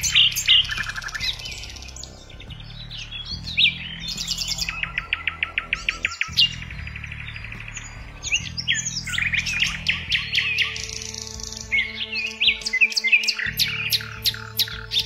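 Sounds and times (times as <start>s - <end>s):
low steady drone: 0.0s - 15.0s
sharp bird chip notes: 0.0s - 15.0s
songbirds chirping and singing: 0.0s - 15.0s.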